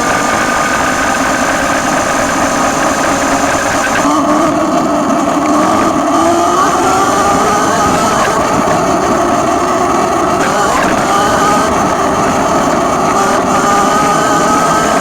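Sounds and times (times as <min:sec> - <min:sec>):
electric motor whining: 0:00.0 - 0:15.0
steady rushing noise: 0:00.0 - 0:15.0.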